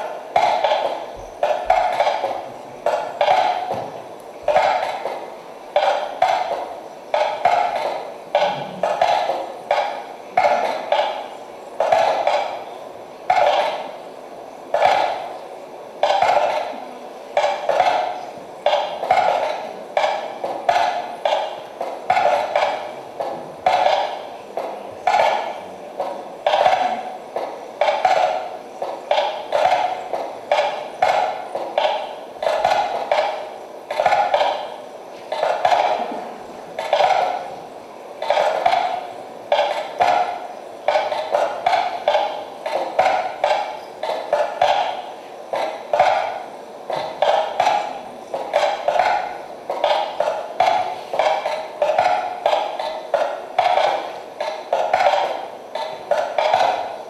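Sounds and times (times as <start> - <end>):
rapid percussive knocking: 0.0 - 12.7, 13.3 - 14.0, 14.7 - 15.4, 16.0 - 16.8, 17.4 - 36.2, 36.8 - 37.5, 38.2 - 57.0.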